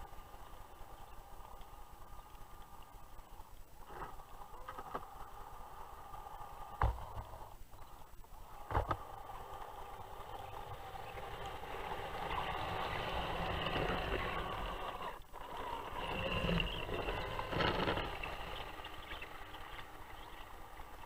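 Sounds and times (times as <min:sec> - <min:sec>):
model tank drive whine: 0:00.0 - 0:21.0.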